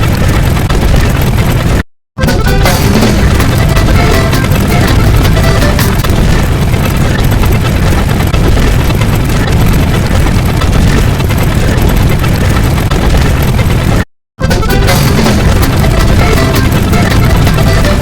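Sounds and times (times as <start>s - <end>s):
distorted rumbling roar: 0.0s - 18.0s.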